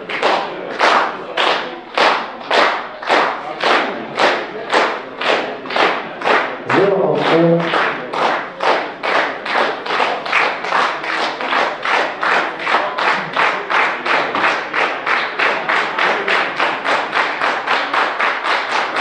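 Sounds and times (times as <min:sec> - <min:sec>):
crowd clapping in unison: 0:00.0 - 0:19.0.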